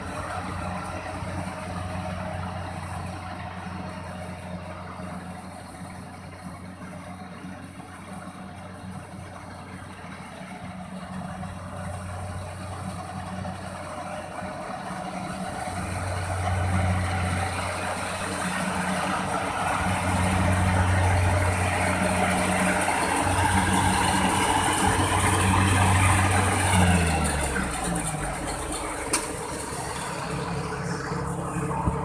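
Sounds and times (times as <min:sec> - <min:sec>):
combine harvester engine humming: 0:00.0 - 0:32.0.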